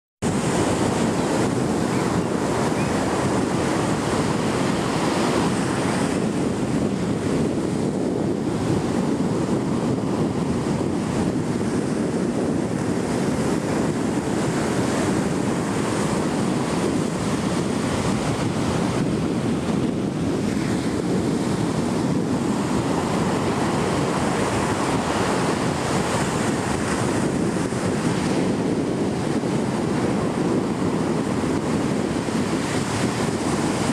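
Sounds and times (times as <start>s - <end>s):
surf breaking on beach: 0.2s - 33.9s
wind buffeting microphone: 0.2s - 33.9s.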